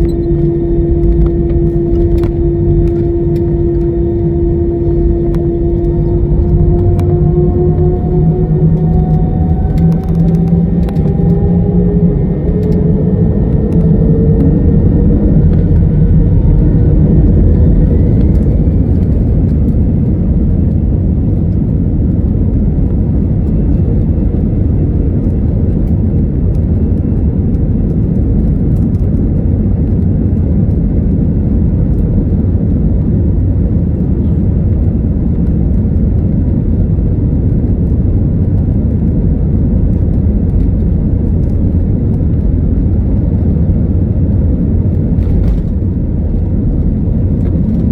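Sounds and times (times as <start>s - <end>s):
jet engines spooling up and roaring: 0.0s - 47.9s.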